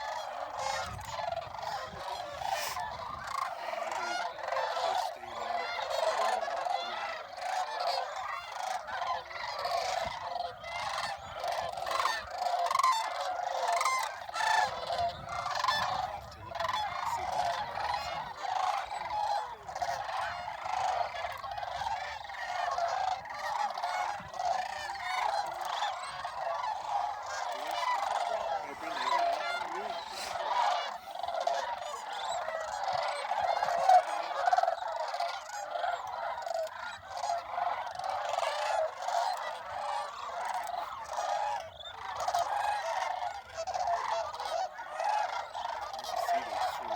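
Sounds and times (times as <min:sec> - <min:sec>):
geese and cranes calling: 0:00.0 - 0:46.9.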